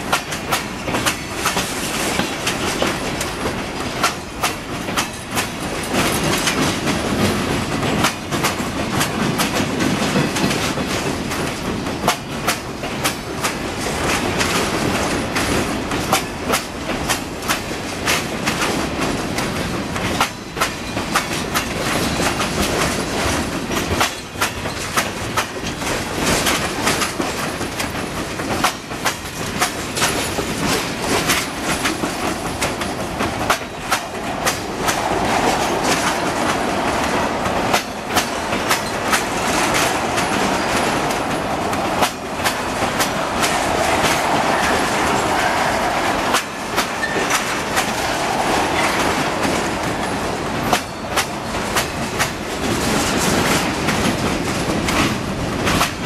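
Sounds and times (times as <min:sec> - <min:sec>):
steel wheels rumbling on rail: 0:00.0 - 0:56.0
wheels clacking over rail joints: 0:00.0 - 0:56.0.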